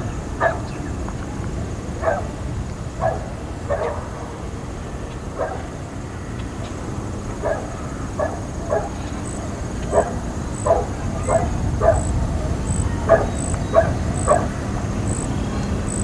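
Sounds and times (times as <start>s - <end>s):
distant dog barking: 0.0s - 1.1s, 1.7s - 16.0s
low background rumble: 0.0s - 16.0s.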